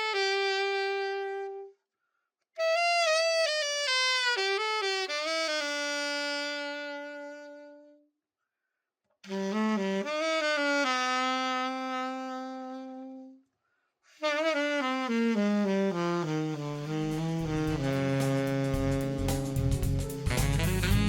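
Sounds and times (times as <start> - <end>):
alto saxophone solo: 0.0 - 1.8, 2.5 - 8.1, 9.2 - 13.5, 14.1 - 21.0.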